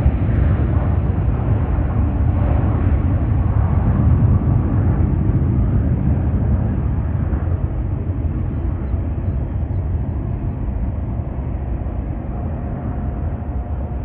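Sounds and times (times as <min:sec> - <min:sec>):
faint jet whine: 0:00.0 - 0:14.0
jet engines rumbling: 0:00.0 - 0:14.0.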